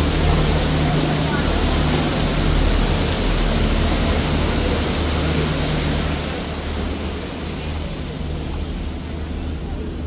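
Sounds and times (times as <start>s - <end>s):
boat engine humming: 0.0s - 10.0s
wind and water rushing: 0.0s - 10.0s.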